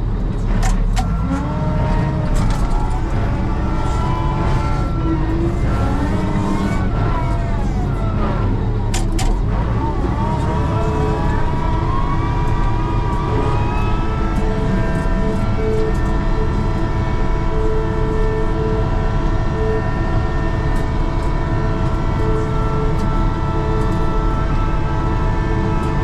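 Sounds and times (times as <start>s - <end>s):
diesel engine rumbling: 0.0s - 26.0s
hydraulics whining: 0.0s - 26.0s.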